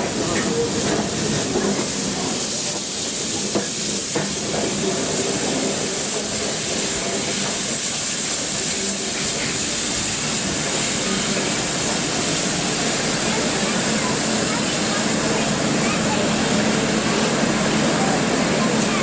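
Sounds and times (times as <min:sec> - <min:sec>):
hiss of escaping steam: 0:00.0 - 0:18.9.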